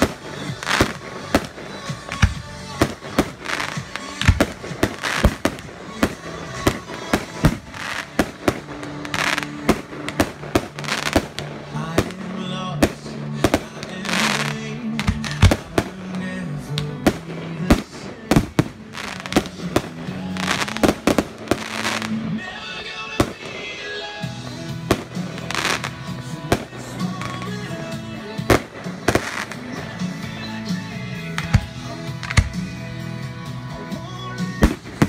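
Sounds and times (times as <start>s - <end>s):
crackling firework bursts: 0.0s - 30.2s
firework bangs: 0.0s - 30.3s, 31.3s - 32.8s
music: 0.0s - 35.0s.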